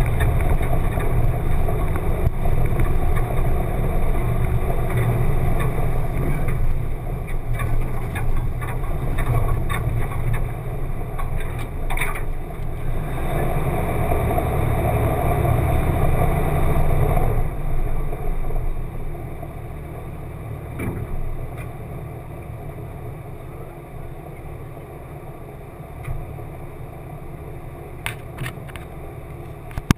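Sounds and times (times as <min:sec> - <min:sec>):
muffled vehicle engine running: 0:00.0 - 0:29.9.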